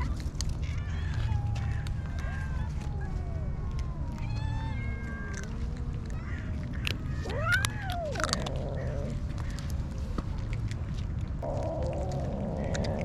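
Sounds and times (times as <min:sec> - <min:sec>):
steady low rumble: 0:00.0 - 0:13.0
cats meowing: 0:00.8 - 0:09.7, 0:11.4 - 0:13.0.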